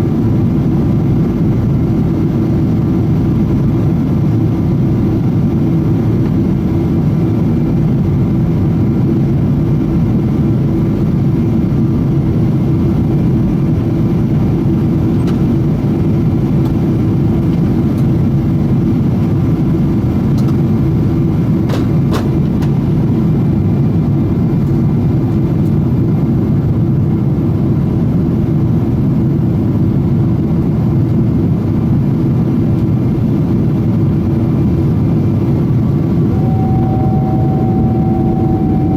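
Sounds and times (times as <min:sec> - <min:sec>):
airplane cabin engine rush: 0:00.0 - 0:38.9
constant hum: 0:00.0 - 0:38.9.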